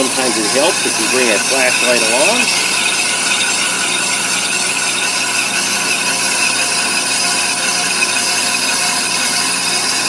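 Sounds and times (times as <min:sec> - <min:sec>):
brake lathe cutting metal drum: 0:00.0 - 0:10.0.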